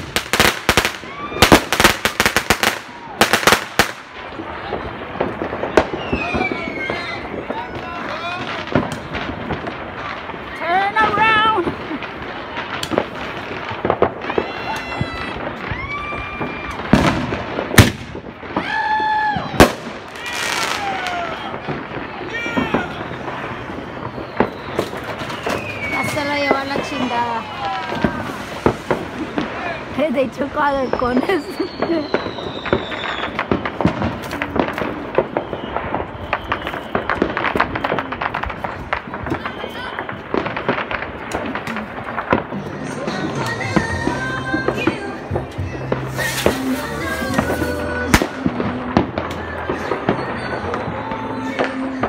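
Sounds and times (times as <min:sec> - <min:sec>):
fireworks banging: 0:00.0 - 0:52.0.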